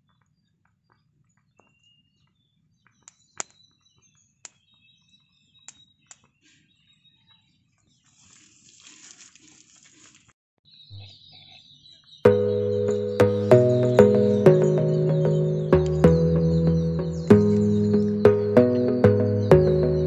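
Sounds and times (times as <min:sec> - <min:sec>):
birds chirping: 0:00.0 - 0:08.7, 0:10.7 - 0:20.0.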